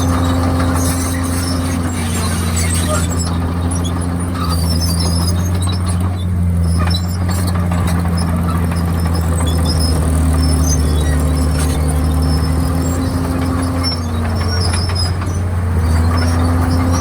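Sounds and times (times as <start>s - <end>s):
bulldozer diesel engine running: 0.0s - 17.0s
high metallic squeaks: 0.0s - 17.0s.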